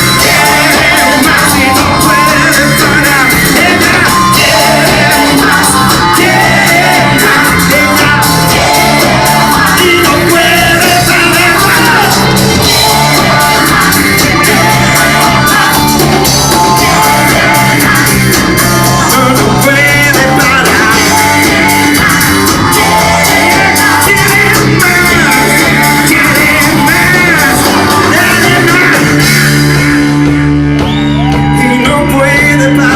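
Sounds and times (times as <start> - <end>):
bass: 0.0 - 32.9
drums: 0.0 - 32.9
rock band playing: 0.0 - 32.9.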